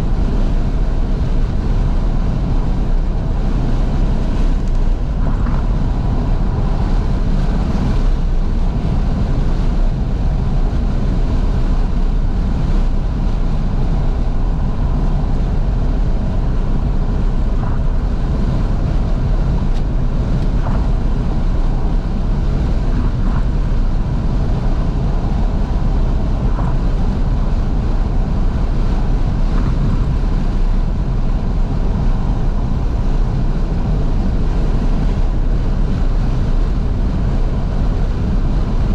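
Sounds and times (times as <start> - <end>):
car driving with windows open: 0.0 - 38.9.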